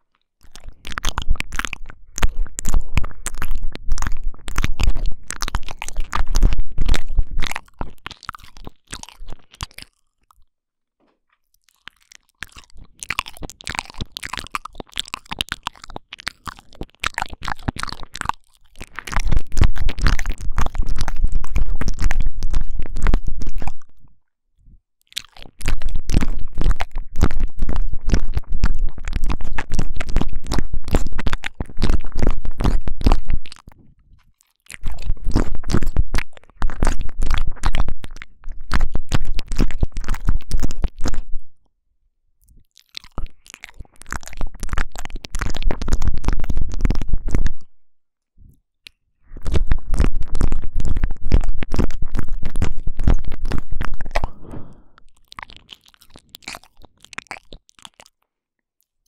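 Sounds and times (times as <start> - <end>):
wet mouth sounds: 0.0 - 10.5, 11.4 - 41.7, 42.4 - 47.8, 48.4 - 59.0.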